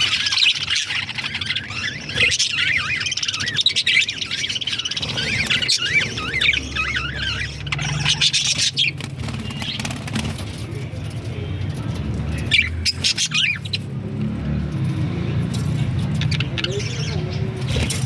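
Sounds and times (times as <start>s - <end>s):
budgerigars chirping: 0.0s - 14.1s, 15.7s - 18.0s.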